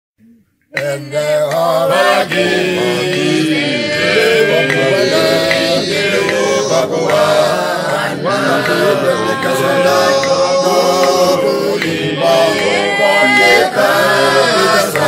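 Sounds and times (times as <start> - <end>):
group singing a hymn: 0.7 - 15.0.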